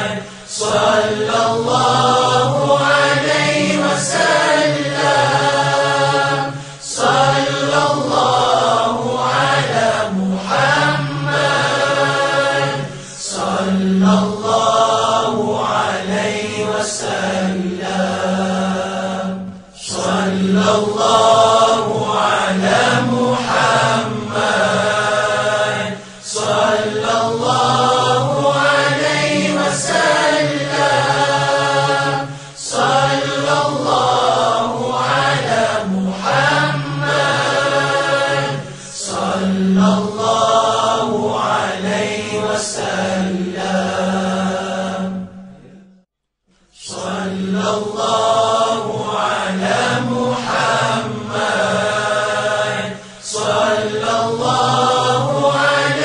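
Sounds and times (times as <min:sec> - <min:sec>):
devotional chanting: 0:00.0 - 0:56.0.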